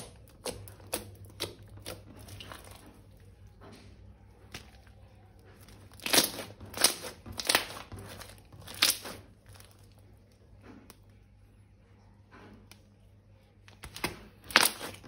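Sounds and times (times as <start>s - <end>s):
materials crinkling and crunching: 0.0s - 10.9s, 13.8s - 15.0s.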